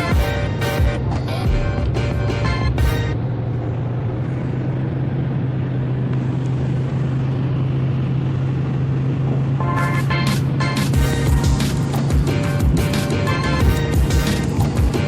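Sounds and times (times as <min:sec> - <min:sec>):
continuous rushing noise: 0:00.0 - 0:15.0
low motor hum: 0:00.1 - 0:15.0.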